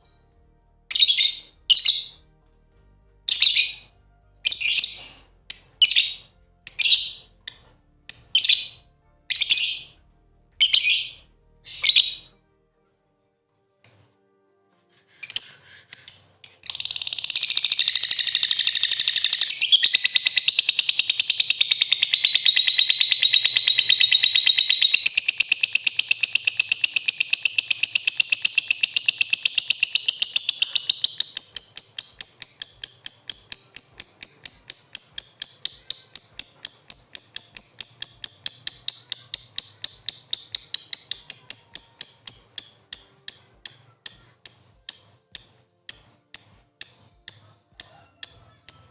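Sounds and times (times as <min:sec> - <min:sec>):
lovebirds chirping: 0:00.0 - 0:02.4, 0:03.2 - 0:10.0, 0:10.6 - 0:12.3, 0:15.2 - 0:48.9.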